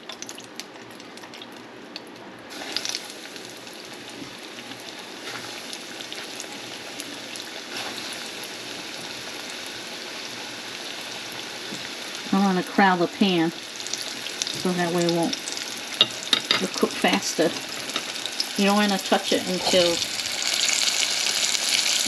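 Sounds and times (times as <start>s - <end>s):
deep-frying crackling sizzle: 0.0s - 22.0s.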